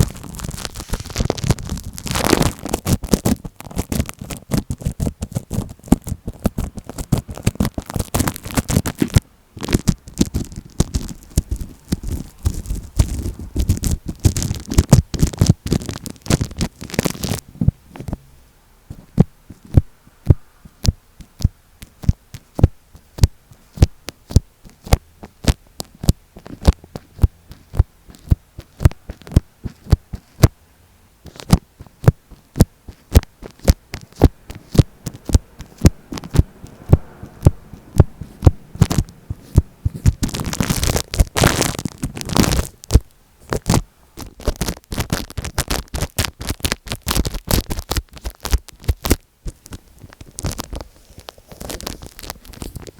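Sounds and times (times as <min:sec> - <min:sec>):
scratchy rubbing on tape: 0:00.0 - 0:18.2, 0:18.9 - 0:30.6, 0:31.2 - 0:52.9
tapping on microphone tape: 0:00.0 - 0:18.3, 0:18.9 - 0:30.6, 0:31.2 - 0:52.9.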